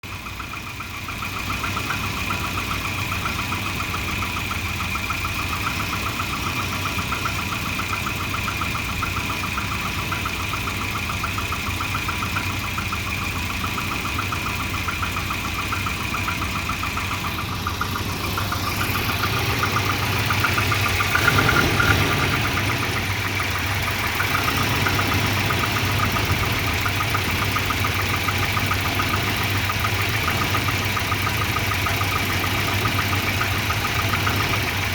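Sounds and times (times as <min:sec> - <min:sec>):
car engine idling roughly: 0:00.0 - 0:34.9.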